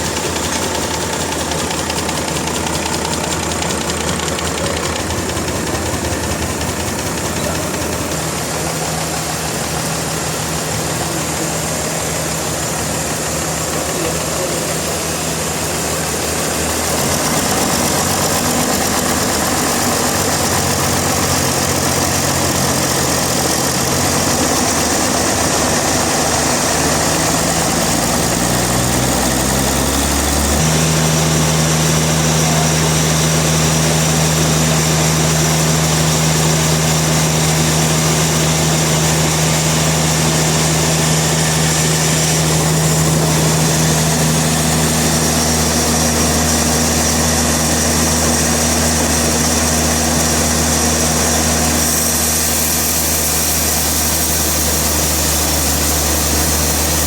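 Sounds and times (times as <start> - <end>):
heavy machinery humming: 0.0 - 57.0
machinery hiss: 0.0 - 57.0.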